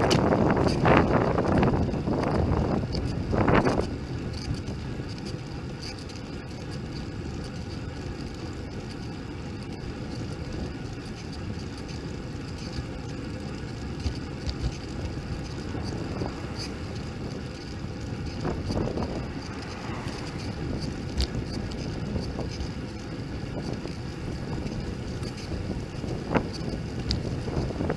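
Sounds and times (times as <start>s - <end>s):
wind buffeting microphone: 0.0s - 5.8s, 9.8s - 27.9s.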